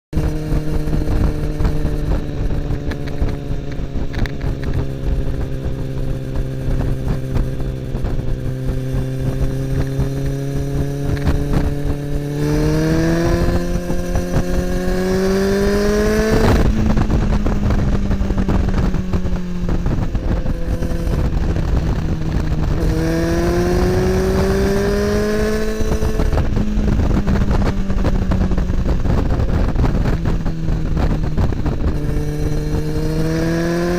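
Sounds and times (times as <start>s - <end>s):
motorcycle engine revving: 0.1s - 33.9s
wind and road noise: 0.1s - 33.9s.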